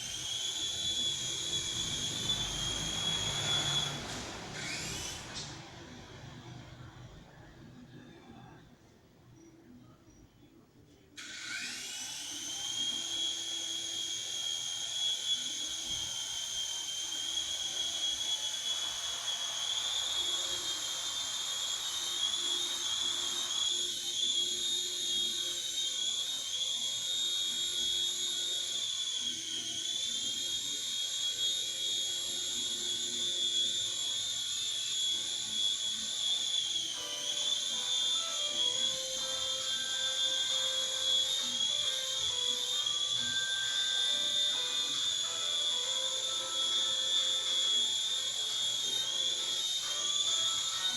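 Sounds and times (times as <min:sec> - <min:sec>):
model helicopter motor whine: 0:00.0 - 0:06.4, 0:11.2 - 0:50.9.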